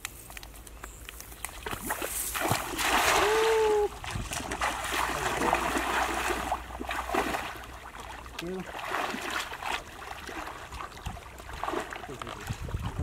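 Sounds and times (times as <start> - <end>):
wading through water: 0.5 - 13.0
cast net splashing into water: 1.1 - 13.0.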